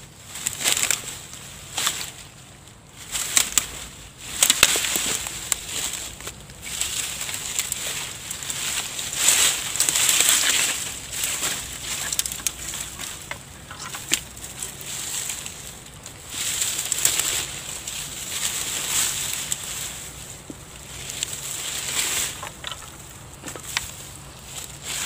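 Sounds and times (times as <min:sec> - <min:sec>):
dry brush rustling and crackling: 0:00.0 - 0:25.0.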